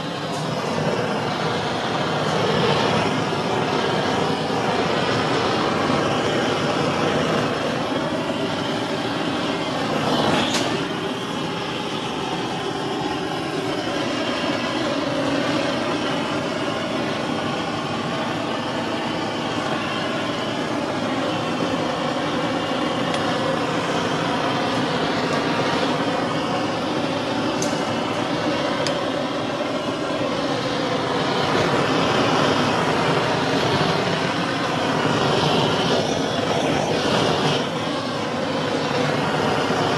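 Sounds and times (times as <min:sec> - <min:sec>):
blowtorch flame rushing: 0:00.0 - 0:39.9.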